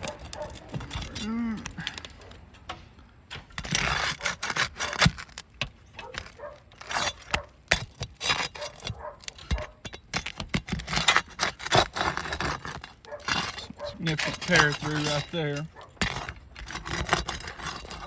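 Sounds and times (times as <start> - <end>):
pry bar scraping shingles: 0.0 - 18.0.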